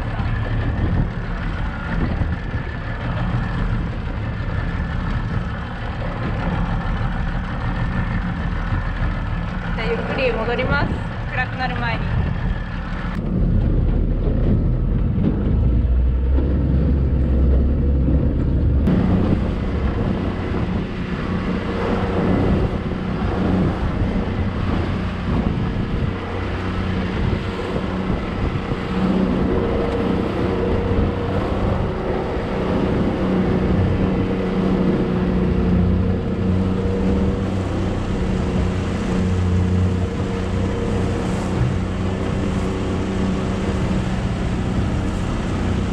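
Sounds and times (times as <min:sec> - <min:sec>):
motorboat engine humming: 0:00.0 - 0:45.9
wind buffeting microphone: 0:00.0 - 0:45.9.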